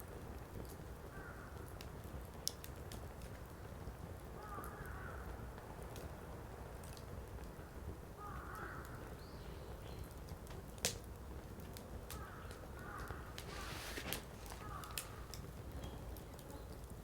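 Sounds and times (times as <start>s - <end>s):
firewood crackling and popping: 0.0s - 17.0s
low rumble of flames: 0.0s - 17.0s.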